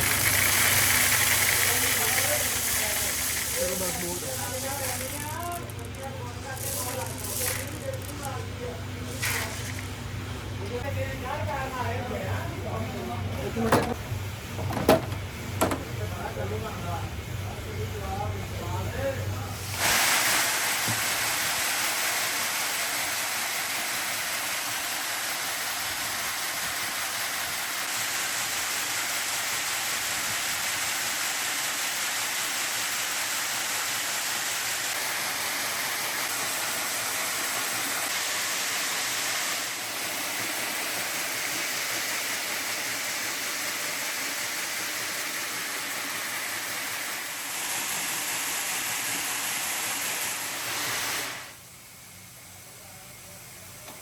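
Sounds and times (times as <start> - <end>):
woodworking machinery hissing: 0.0 - 54.0.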